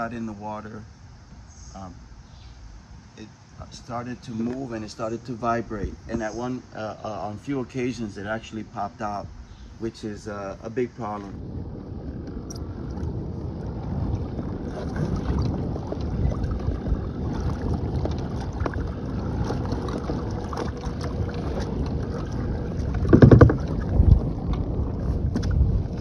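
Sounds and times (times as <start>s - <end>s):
water noise: 0.0s - 26.0s
wind buffeting microphone: 3.6s - 26.0s.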